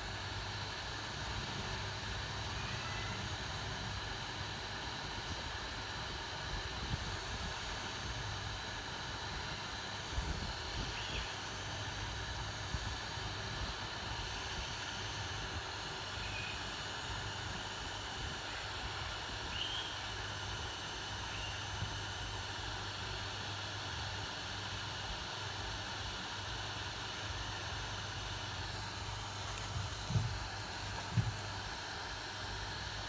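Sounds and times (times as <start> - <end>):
airflow hiss with low hum: 0.0 - 33.0.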